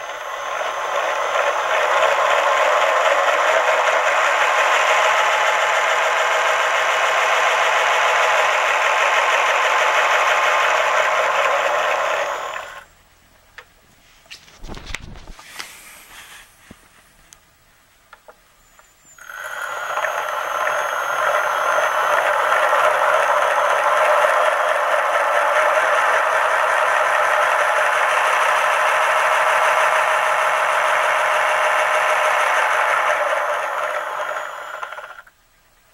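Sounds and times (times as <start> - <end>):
high whine from drive: 0.0 - 13.1, 18.6 - 35.4.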